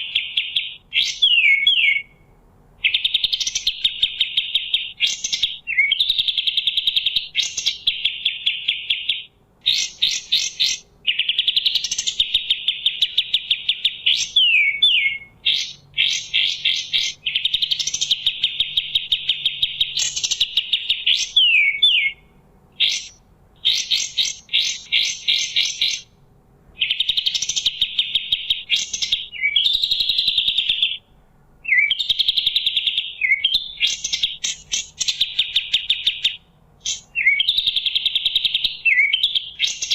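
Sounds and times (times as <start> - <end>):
bulbul singing fast trills: 0.0 - 39.9.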